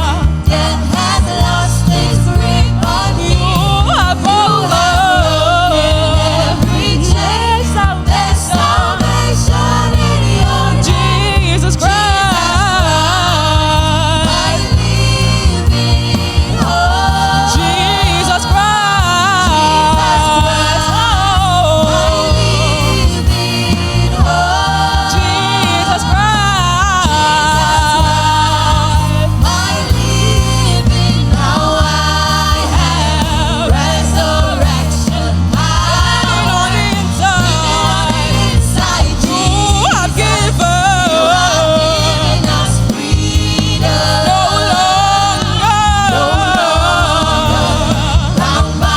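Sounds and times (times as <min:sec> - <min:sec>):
band accompaniment: 0:00.0 - 0:48.9
singers in harmony: 0:00.0 - 0:48.9.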